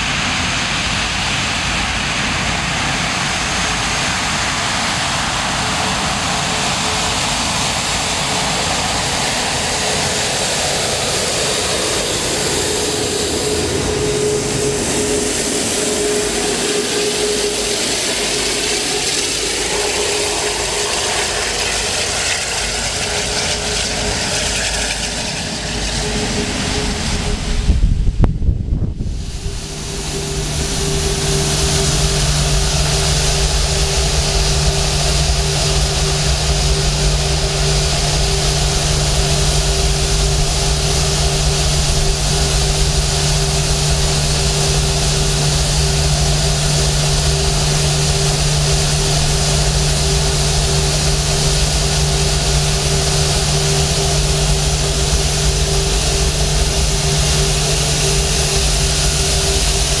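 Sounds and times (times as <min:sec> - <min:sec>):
jet engines taxiing: 0:00.0 - 1:00.0.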